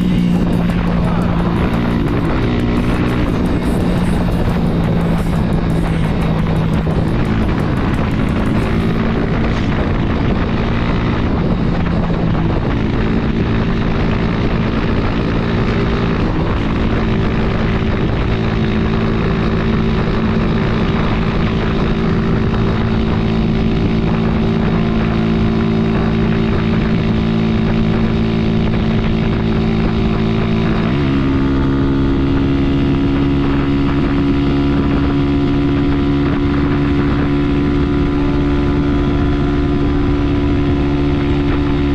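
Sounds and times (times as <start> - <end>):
motorcycle engine running: 0.0 - 41.9
wind rush: 0.0 - 41.9.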